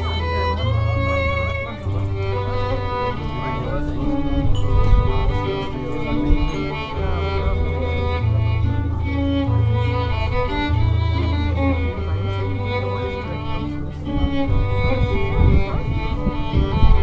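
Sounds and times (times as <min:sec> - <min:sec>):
fiddle: 0:00.0 - 0:17.0.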